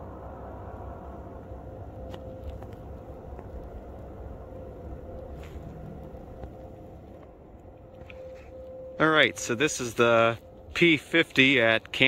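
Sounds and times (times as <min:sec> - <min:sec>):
distant warning siren: 0:00.0 - 0:12.0
low rumble: 0:00.0 - 0:12.0.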